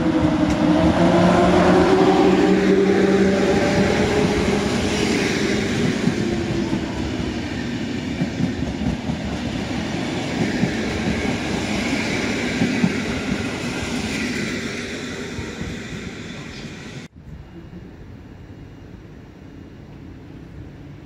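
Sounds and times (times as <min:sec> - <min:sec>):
train coaches rumbling past: 0:00.0 - 0:21.0.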